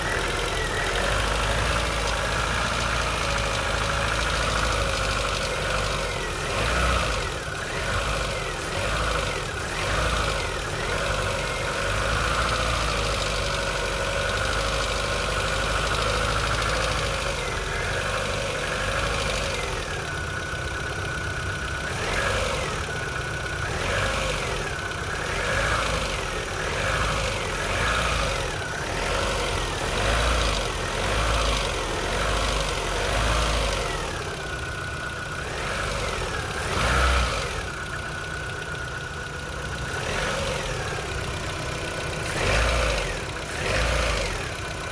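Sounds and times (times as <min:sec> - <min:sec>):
engine knock: 0:00.0 - 0:44.9
petrol engine running: 0:00.0 - 0:44.9.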